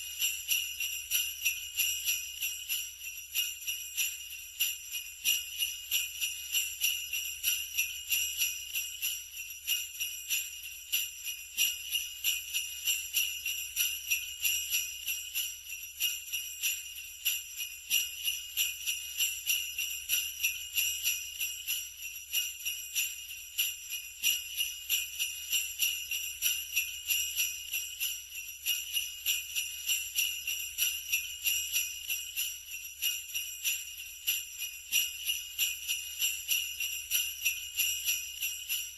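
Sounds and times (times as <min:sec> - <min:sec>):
sleigh bells jingling: 0:00.0 - 0:38.9.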